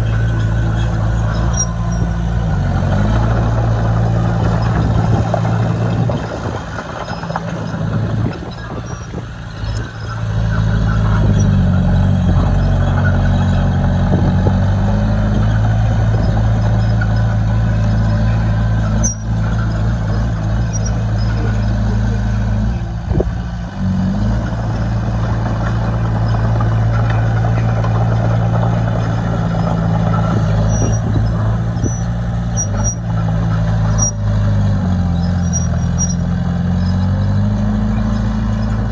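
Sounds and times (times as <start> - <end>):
short high squeaks: 0.0 - 13.8, 15.0 - 22.0, 25.5 - 37.3
diesel engine of earthmoving machinery: 0.0 - 38.9.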